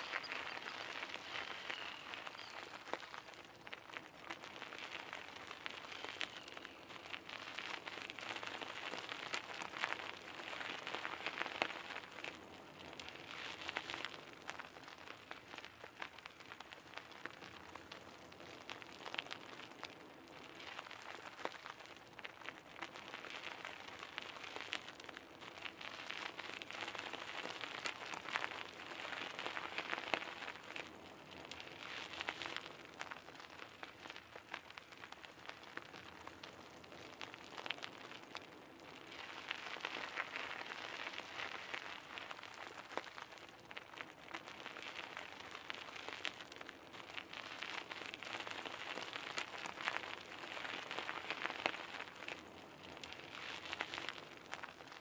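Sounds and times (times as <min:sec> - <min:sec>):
bicycle tyres crunching on gravel: 0:00.0 - 0:55.0.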